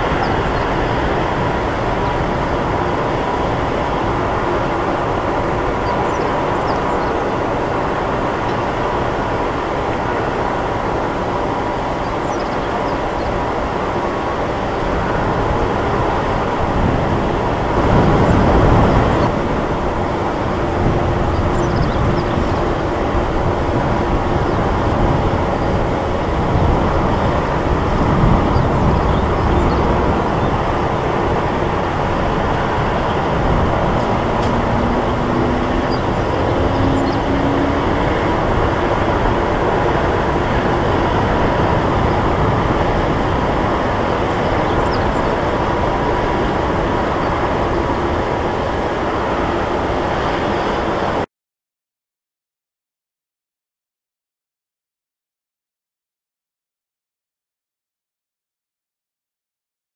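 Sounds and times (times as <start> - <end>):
jet engines rumbling: 0.0 - 51.2.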